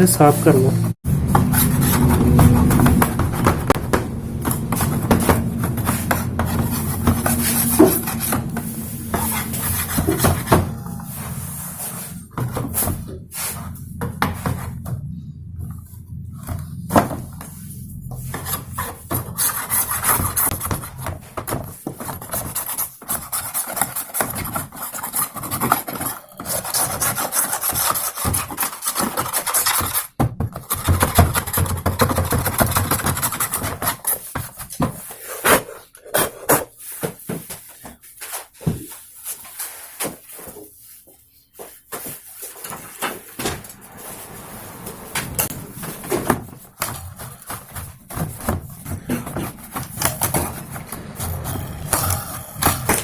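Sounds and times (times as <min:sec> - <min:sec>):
rapid scraping and rubbing: 0:01.1 - 0:14.9, 0:15.7 - 0:30.1, 0:38.2 - 0:53.0.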